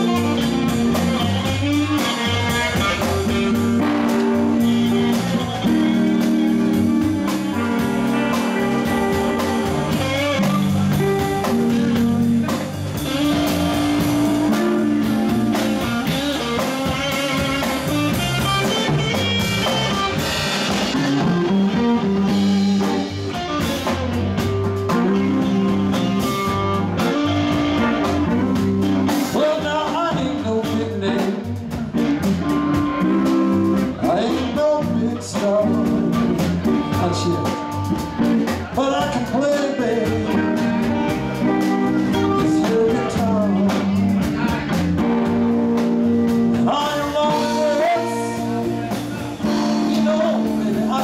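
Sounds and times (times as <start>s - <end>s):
drum kit steady beat: 0.0s - 51.0s
electric guitar: 0.0s - 51.0s.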